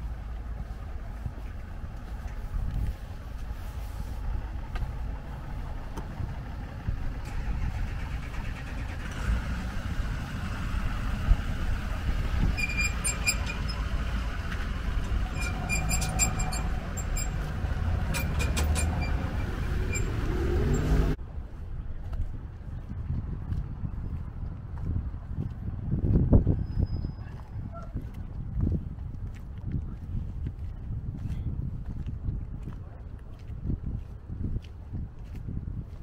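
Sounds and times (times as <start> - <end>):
road traffic rumble: 0.0 - 36.0
vehicle engines running: 0.0 - 36.0.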